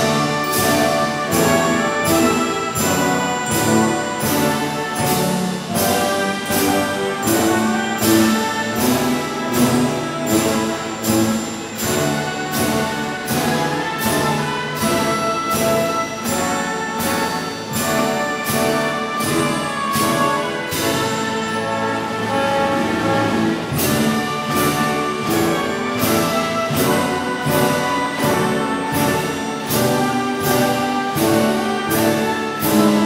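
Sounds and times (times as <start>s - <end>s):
orchestral music with brass: 0.0s - 33.0s.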